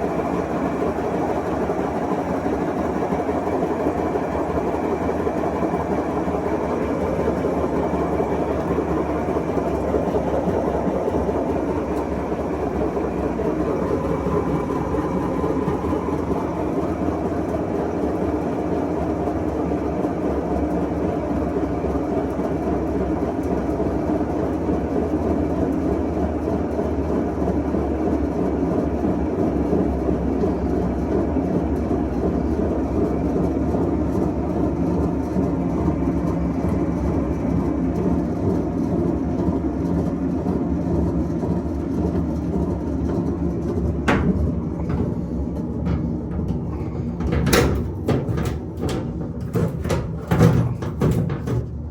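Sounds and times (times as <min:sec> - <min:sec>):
washing machine spin cycle rumble: 0:00.0 - 0:51.9.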